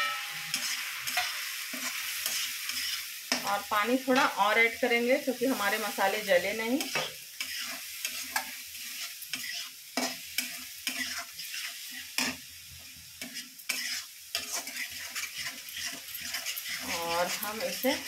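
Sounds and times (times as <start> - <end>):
spatula stirring and scraping: 0.0 - 4.3, 5.5 - 18.0
spices sizzling in hot oil: 0.0 - 18.0.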